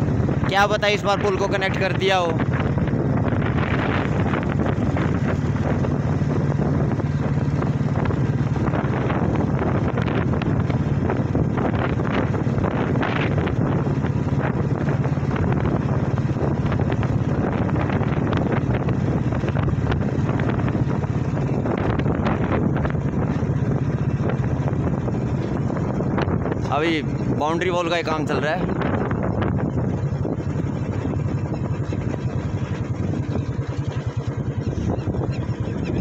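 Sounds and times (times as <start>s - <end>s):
motorcycle engine humming: 0.0s - 36.0s
wind rushing over microphone: 0.0s - 36.0s.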